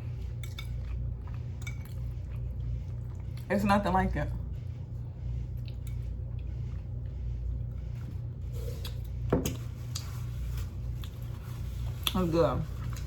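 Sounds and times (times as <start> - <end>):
close-up chewing: 0.0 - 3.6, 4.4 - 13.0
steady low hum: 0.0 - 13.0.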